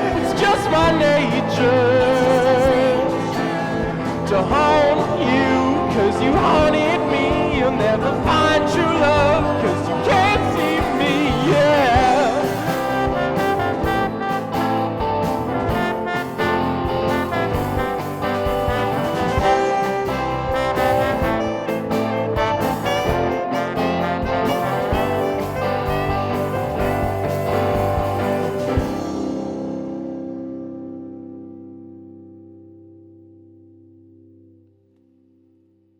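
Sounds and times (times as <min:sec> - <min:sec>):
drums hit steadily: 0:00.0 - 0:30.1
jazz band playing: 0:00.0 - 0:31.1.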